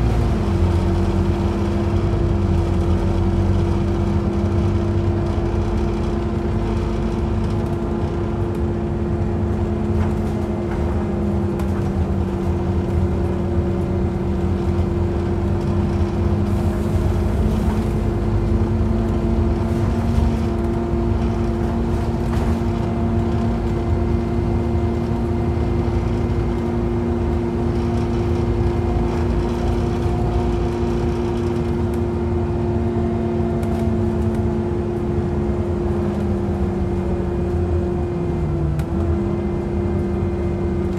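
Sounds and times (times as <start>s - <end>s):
bus engine drone with whine: 0.0s - 40.9s
road rumble: 0.0s - 40.9s.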